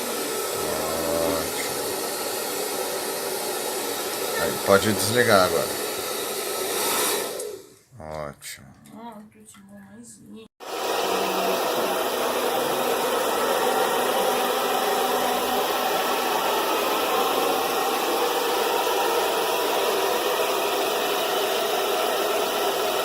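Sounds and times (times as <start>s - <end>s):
hair dryer blowing: 0.0s - 7.8s, 10.6s - 23.0s.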